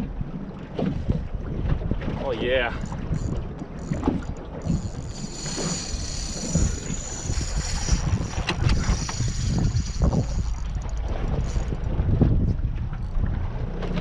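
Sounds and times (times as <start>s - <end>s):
water slapping against a boat hull: 0.0s - 5.7s, 6.3s - 14.0s
wind buffeting the microphone: 0.0s - 14.0s.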